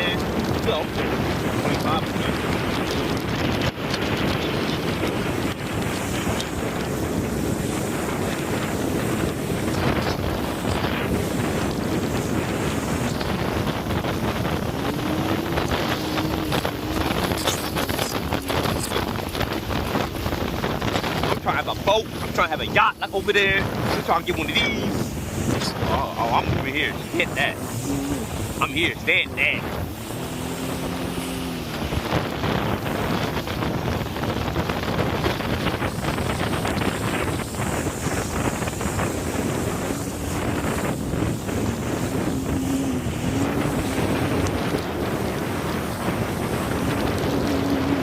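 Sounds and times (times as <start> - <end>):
jet ski engine whine: 0.0 - 48.0
wind buffeting microphone: 0.0 - 48.0.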